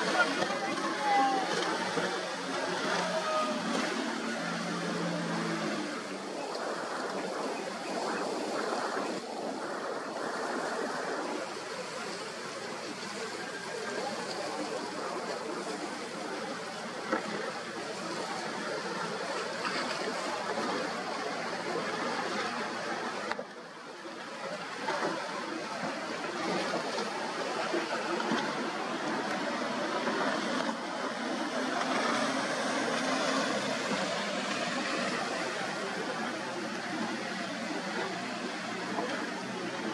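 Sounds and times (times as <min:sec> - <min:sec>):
choppy water and breaking waves: 0:00.0 - 0:39.9.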